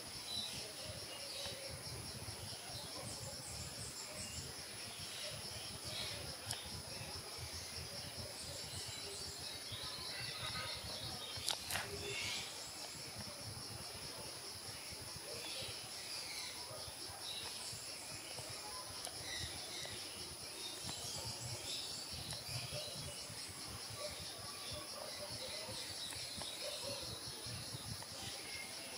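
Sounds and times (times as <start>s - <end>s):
high-pitched insect chorus: 0.0s - 28.9s.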